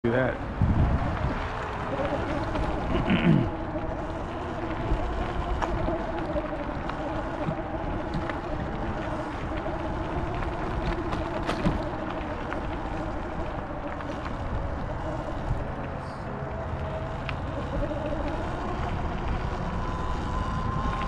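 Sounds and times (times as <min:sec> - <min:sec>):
bike tyres rolling on gravel: 0:00.0 - 0:21.0
gravel clicks: 0:00.0 - 0:21.0
wavering hum: 0:00.0 - 0:21.0
wind on microphone: 0:00.0 - 0:21.0.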